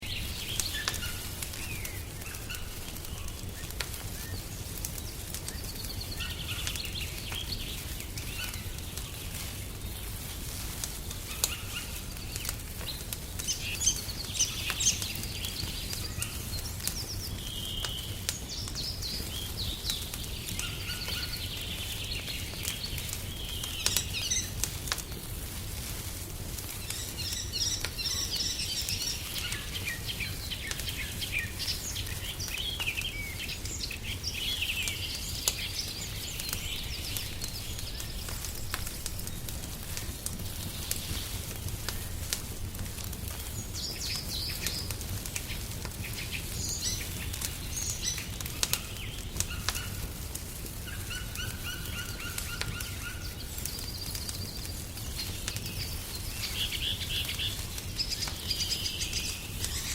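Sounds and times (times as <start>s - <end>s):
birds chirping and trilling: 0.0s - 10.2s, 11.1s - 25.2s, 26.8s - 42.1s, 43.4s - 50.1s, 50.8s - 59.9s
wood fire crackling and popping: 0.0s - 59.9s.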